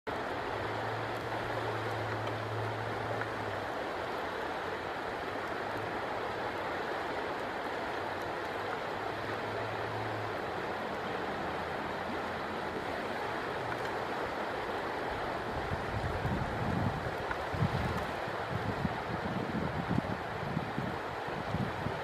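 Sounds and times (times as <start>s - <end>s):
river flowing: 0.1s - 22.0s.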